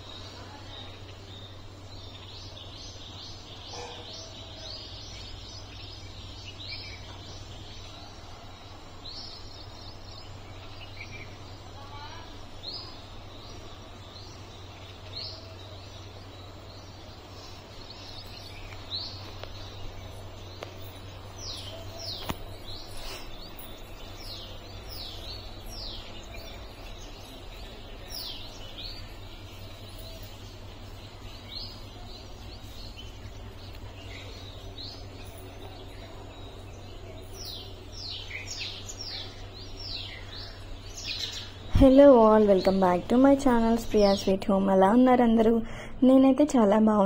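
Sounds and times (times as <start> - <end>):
small birds chirping: 0.0 - 47.0
steady low hum: 0.0 - 47.0.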